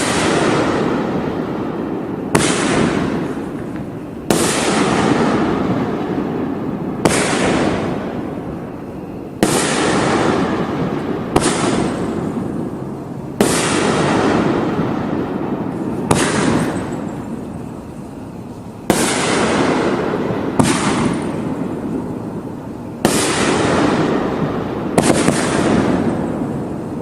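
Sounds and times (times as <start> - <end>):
firework bangs: 0.0 - 27.0
fireworks crackling: 0.0 - 27.0.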